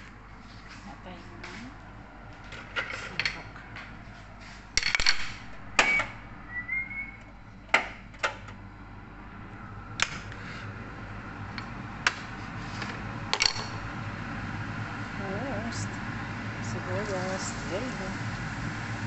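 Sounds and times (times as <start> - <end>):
low hum: 3.3 - 19.0.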